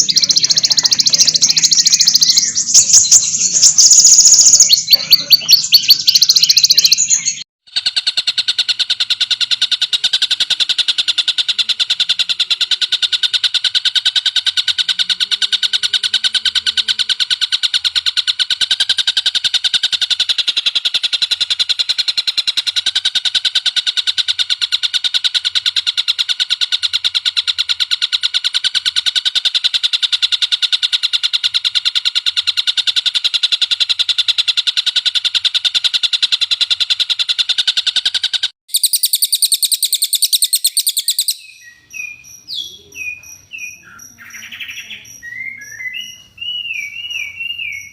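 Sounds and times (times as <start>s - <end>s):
bird rattling trill: 0.0s - 47.9s.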